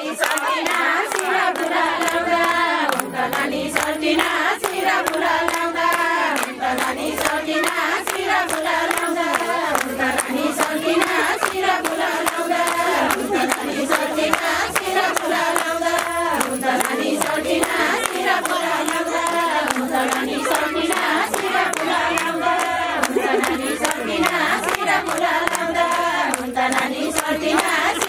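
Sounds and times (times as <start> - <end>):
crowd clapping in rhythm: 0.0 - 28.0
women singing folk song: 0.0 - 28.0.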